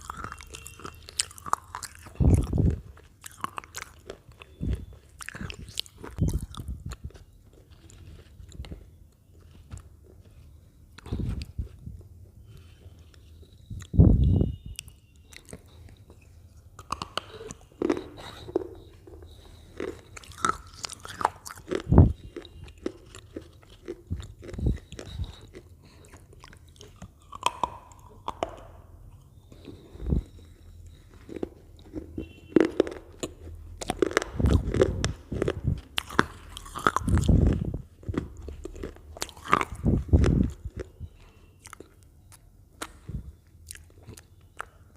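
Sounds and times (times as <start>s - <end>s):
crunching potato chips: 0.0s - 11.8s, 14.8s - 28.6s, 29.6s - 44.9s.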